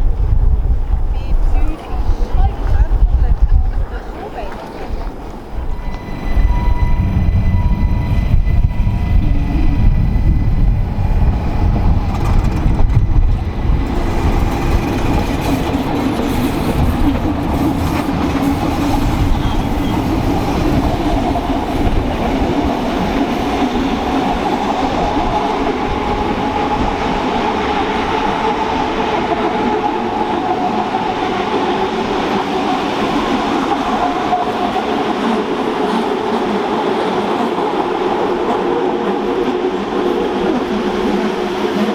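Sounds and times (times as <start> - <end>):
train rumbling on track: 0.0 - 41.9.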